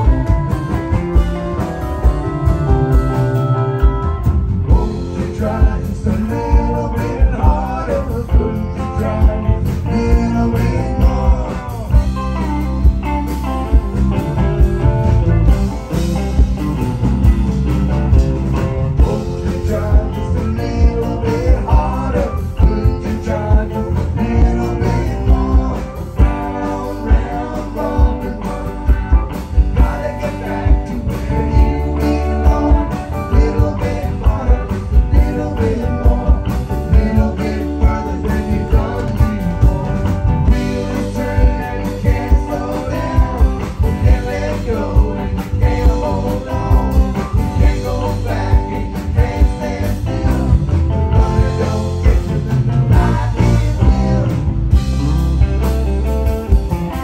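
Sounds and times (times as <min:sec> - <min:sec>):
men singing: 0:00.0 - 0:14.2, 0:15.4 - 0:55.7
drum kit beat: 0:00.0 - 0:57.0
electric bass: 0:00.0 - 0:57.0
electric guitar: 0:00.0 - 0:57.0.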